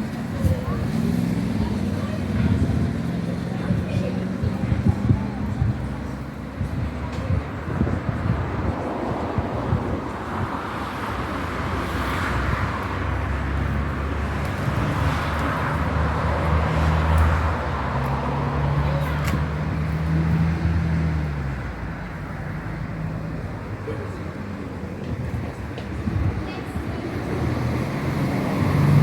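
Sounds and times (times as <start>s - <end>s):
vehicle engine passing: 0.0s - 6.7s, 10.8s - 29.0s.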